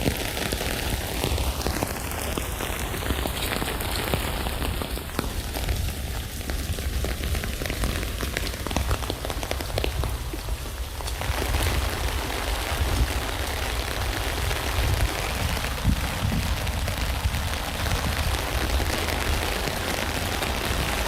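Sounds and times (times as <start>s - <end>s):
rain pattering on a tent: 0.0s - 21.0s.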